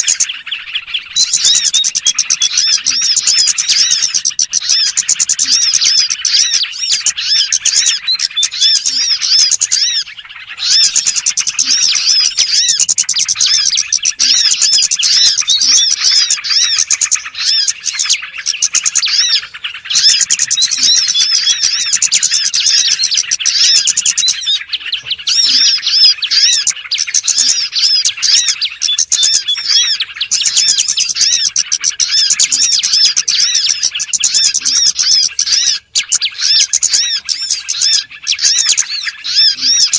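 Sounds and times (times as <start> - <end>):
small songbirds chirping and trilling: 0.0 - 39.9.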